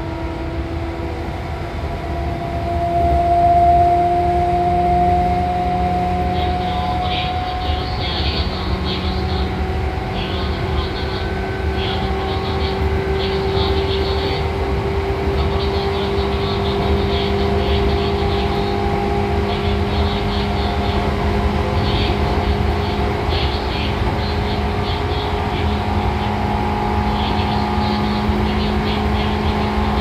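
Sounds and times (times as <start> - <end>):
train motor and gear hum: 0.0 - 30.0
train wheels rumbling on rails: 0.0 - 30.0.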